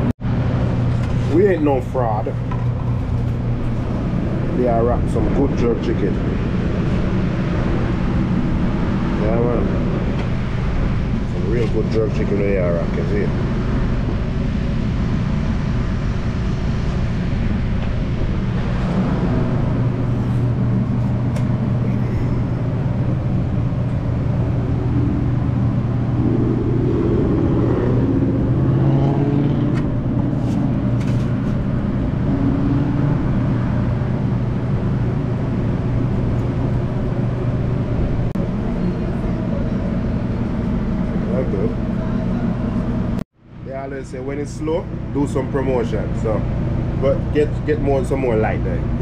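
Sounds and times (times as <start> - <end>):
engine humming: 0.0 - 49.0.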